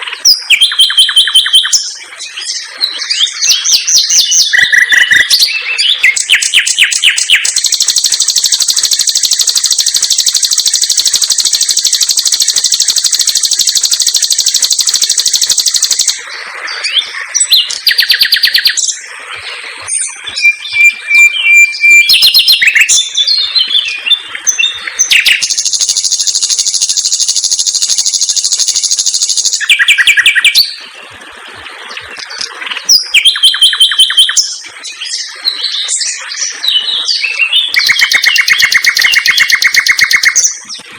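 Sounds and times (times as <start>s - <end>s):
nightingale singing: 0.0s - 19.1s, 19.9s - 30.8s, 32.3s - 40.7s.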